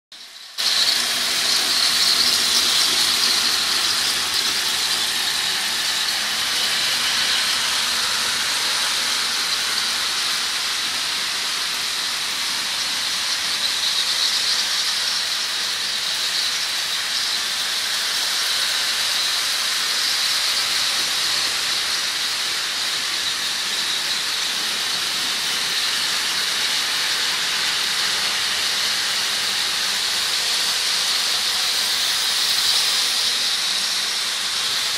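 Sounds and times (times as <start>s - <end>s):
toy train motors whirring: 0.1s - 34.9s.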